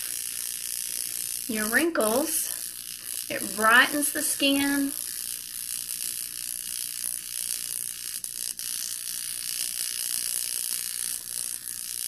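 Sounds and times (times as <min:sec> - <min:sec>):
facial wand buzzing hiss: 0:00.0 - 0:12.0.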